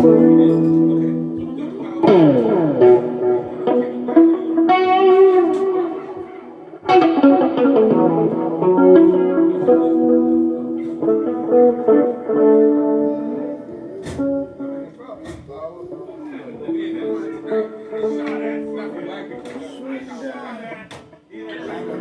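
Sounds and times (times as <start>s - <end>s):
guitar playing: 0.0s - 19.9s.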